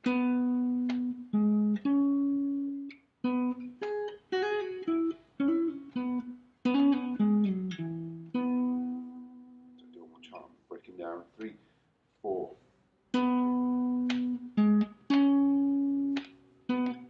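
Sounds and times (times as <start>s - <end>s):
clean electric guitar riff: 0.0s - 9.9s, 13.2s - 17.0s.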